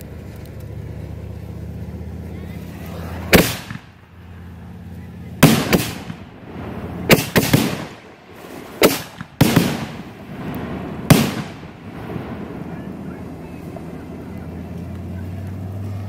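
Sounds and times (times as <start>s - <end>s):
fireworks bangs: 2.1s - 16.0s.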